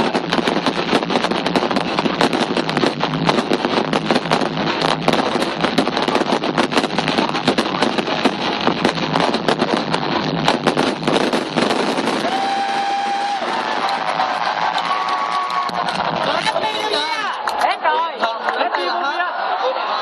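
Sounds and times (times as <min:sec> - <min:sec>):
fireworks bangs and crackles: 0:00.0 - 0:17.6.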